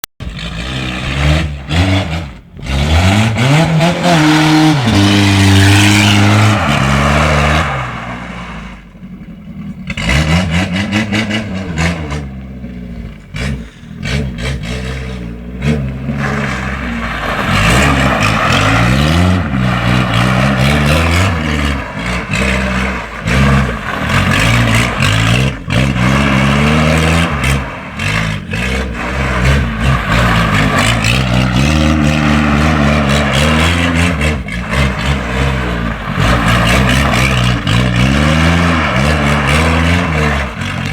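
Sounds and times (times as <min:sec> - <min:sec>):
car engine revving loudly: 0:00.2 - 0:08.9, 0:09.8 - 0:40.9.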